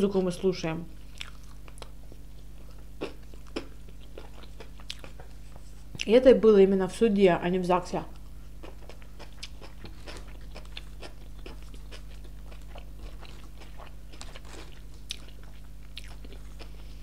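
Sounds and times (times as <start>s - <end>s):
chewing and crunching food: 1.0s - 6.1s, 8.1s - 17.0s.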